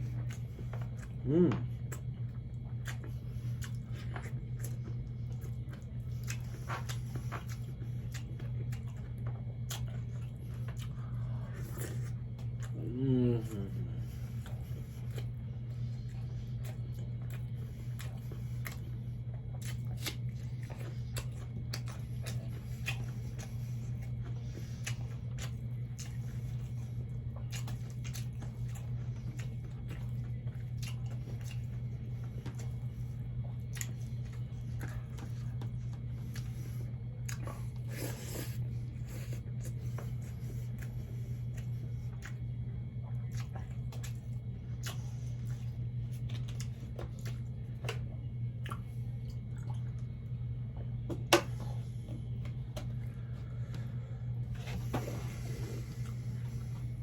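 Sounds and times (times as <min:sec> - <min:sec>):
chewing and mouth sounds: 0:00.0 - 0:57.0
steady low hum: 0:00.0 - 0:57.0.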